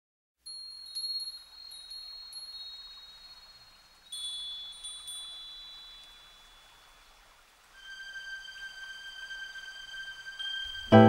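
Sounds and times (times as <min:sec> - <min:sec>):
metal wind chimes ringing: 0:00.4 - 0:11.0.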